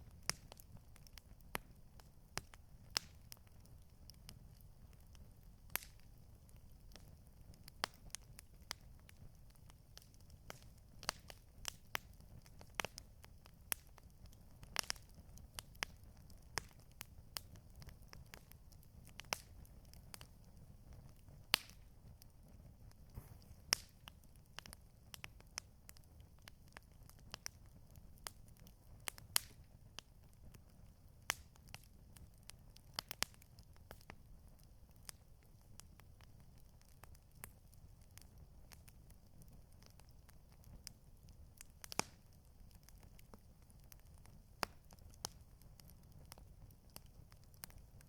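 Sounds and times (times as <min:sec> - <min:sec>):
campfire pops and snaps: 0:00.0 - 0:48.0
low rumble of burning fire: 0:00.0 - 0:48.0.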